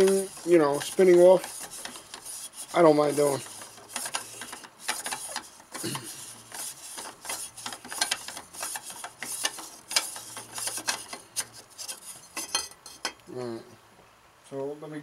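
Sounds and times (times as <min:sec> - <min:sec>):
metal threads scraping and clicking: 0:00.0 - 0:13.2.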